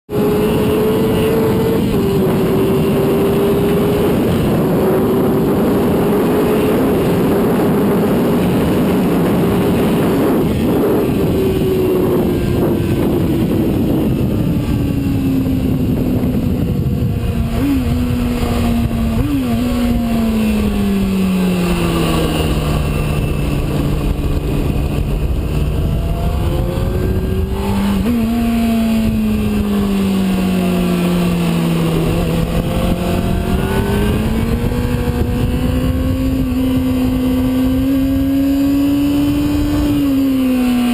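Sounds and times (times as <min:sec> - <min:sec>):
motorcycle engine revving: 0:00.1 - 0:40.9
wind rush: 0:00.1 - 0:40.9.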